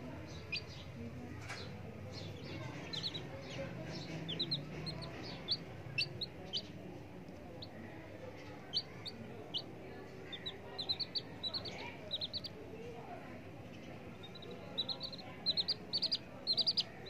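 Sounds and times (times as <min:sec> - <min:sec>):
baby chicks peeping: 0:00.1 - 0:17.0.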